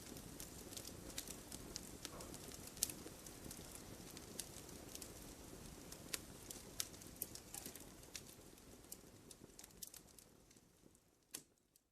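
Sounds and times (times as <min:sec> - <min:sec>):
wood fire crackling: 0:00.0 - 0:11.9.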